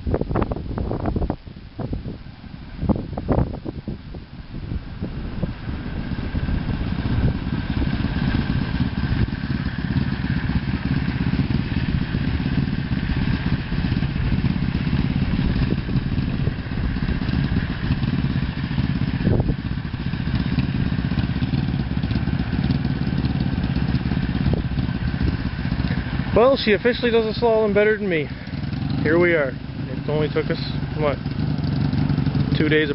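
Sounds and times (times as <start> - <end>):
motorcycle engine at low speed: 0.0 - 32.9.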